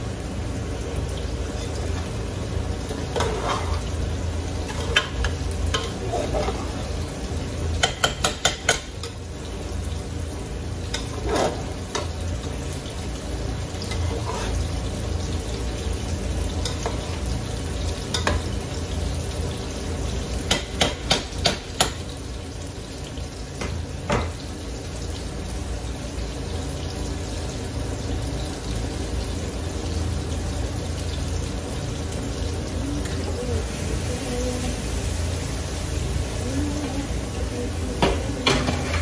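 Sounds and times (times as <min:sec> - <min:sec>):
frying sizzle: 0:00.0 - 0:39.0.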